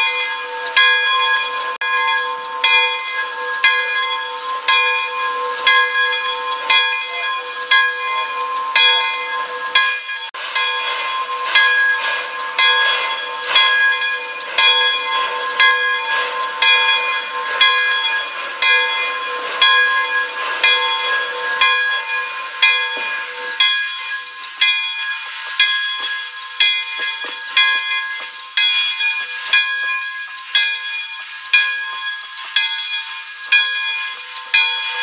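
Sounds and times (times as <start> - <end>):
locomotive bell ringing: 0.0 - 35.0
steam venting hiss: 0.3 - 35.0.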